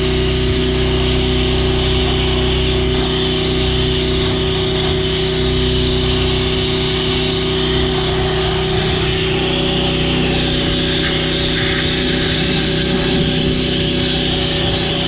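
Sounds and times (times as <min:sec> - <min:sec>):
hissing jet of water and sand: 0:00.0 - 0:15.0
pressure washer running: 0:00.0 - 0:15.0.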